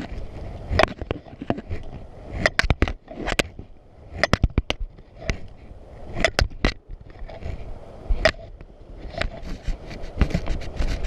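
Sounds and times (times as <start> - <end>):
sharp clicks and knocks: 0.0 - 11.0.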